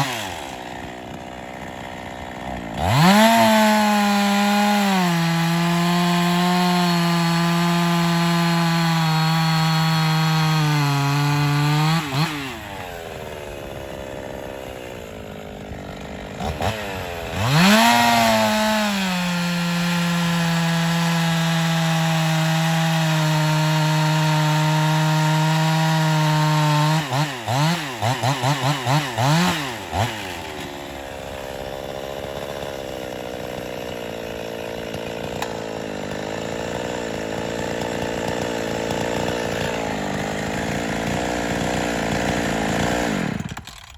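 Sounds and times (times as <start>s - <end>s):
chainsaw cutting wood: 0.0s - 43.9s
chainsaw idling: 0.0s - 43.9s
chainsaw throttle blips: 0.0s - 43.9s.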